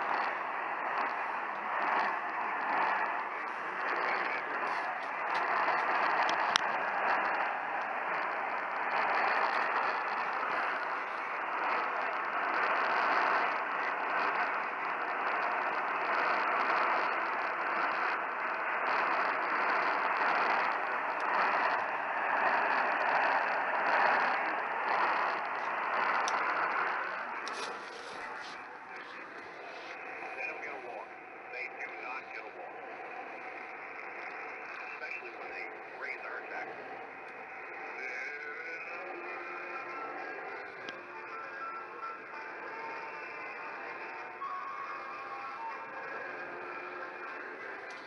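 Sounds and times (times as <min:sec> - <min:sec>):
radio static hiss: 0:00.0 - 0:48.0.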